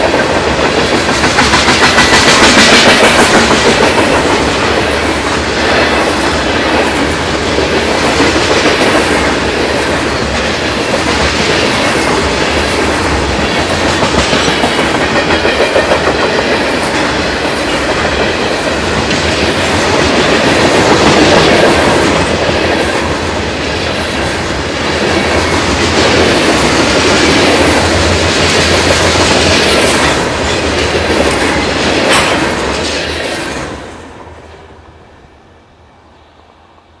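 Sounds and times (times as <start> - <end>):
freight train wheels rumbling and clattering: 0.0 - 34.5.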